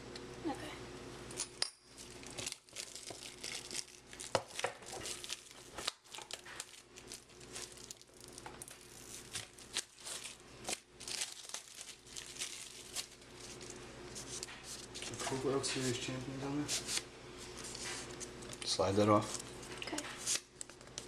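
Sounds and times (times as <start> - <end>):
plastic wrapping tearing and crinkling: 1.9 - 15.4, 17.6 - 21.0.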